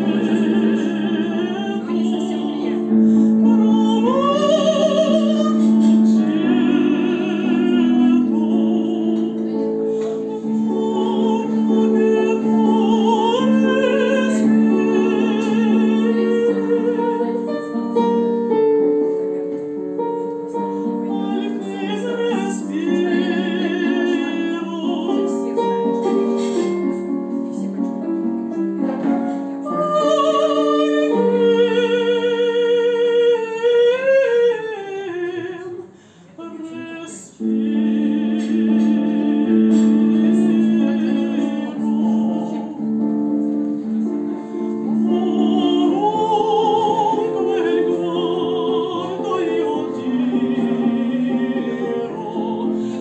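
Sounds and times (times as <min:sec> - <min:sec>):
woman singing operatically: 0:00.0 - 0:17.8, 0:21.0 - 0:25.8, 0:29.6 - 0:42.9, 0:44.8 - 0:53.0
digital piano: 0:00.0 - 0:36.0, 0:36.8 - 0:53.0.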